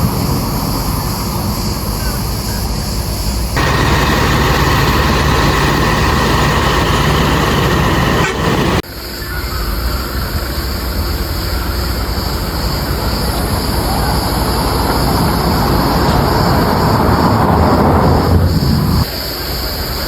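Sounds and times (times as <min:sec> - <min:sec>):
aircraft engine: 0:00.0 - 0:20.0.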